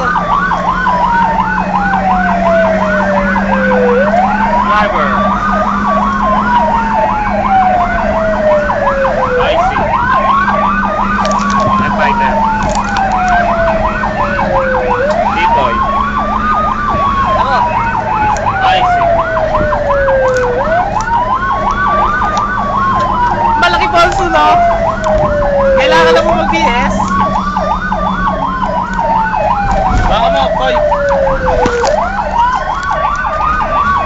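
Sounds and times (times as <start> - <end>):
siren fast yelp: 0.0 - 34.0
siren wail: 0.0 - 34.0.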